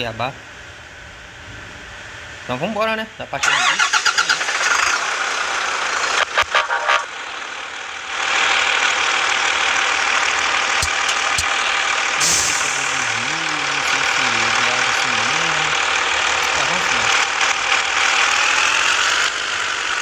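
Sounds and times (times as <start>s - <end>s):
truck engine running: 0.0s - 20.0s
road noise: 3.4s - 20.0s.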